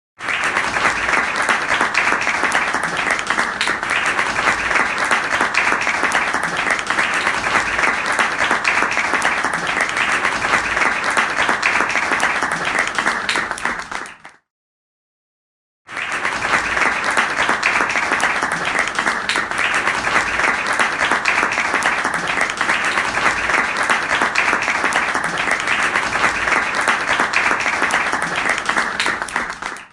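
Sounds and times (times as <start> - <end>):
crowd applauding: 0.2 - 14.4, 15.9 - 29.9.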